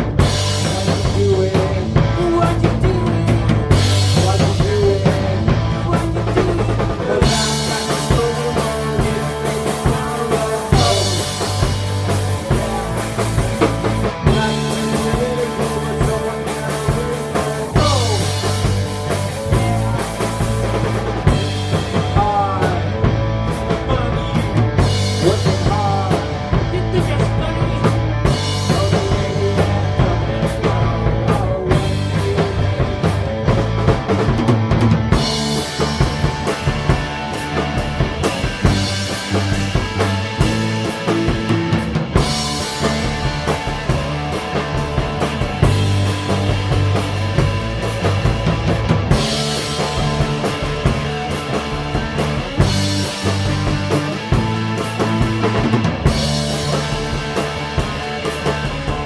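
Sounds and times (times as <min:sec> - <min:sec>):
drum kit beat: 0:00.0 - 0:59.0
punk rock band playing: 0:00.0 - 0:59.0.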